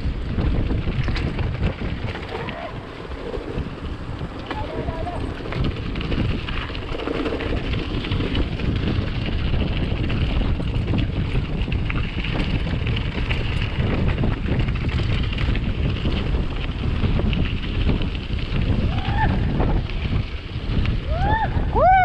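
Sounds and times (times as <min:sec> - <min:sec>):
bike tyres crunching over stones: 0:00.0 - 0:22.0
wind rushing over microphone: 0:00.0 - 0:22.0.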